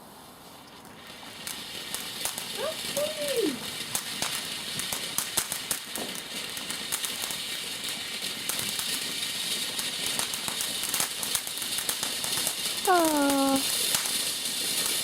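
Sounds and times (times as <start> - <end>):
firework hissing and crackling: 0.0 - 15.0.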